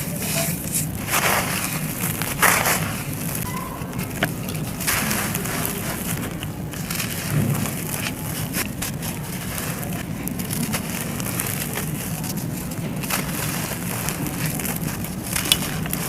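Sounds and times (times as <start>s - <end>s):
dry chunks crushed and crackling: 0.0s - 16.0s
low grinding rumble: 0.0s - 16.0s.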